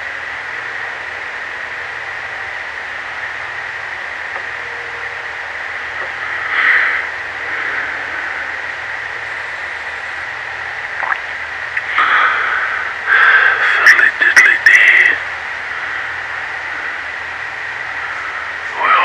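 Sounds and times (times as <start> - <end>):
insect night chorus: 3.4 - 19.0.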